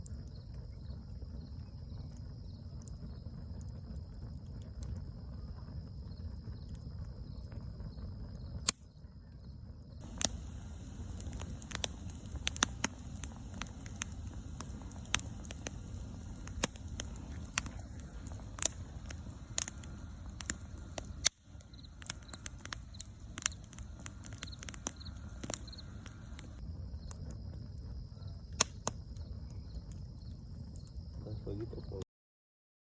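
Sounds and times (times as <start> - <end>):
bonfire crackling and popping: 0.0 - 32.0.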